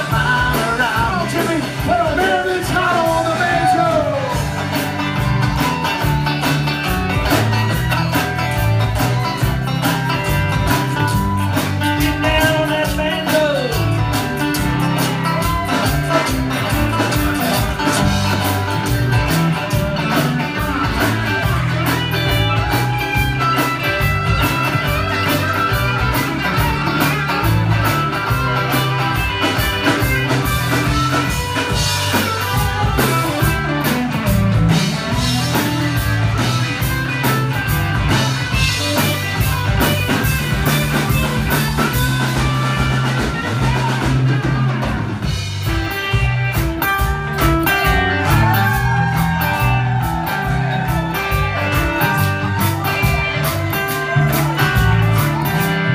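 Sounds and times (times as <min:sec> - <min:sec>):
country-rock band playing: 0:00.0 - 0:55.9
drum kit steady beat: 0:00.0 - 0:55.9.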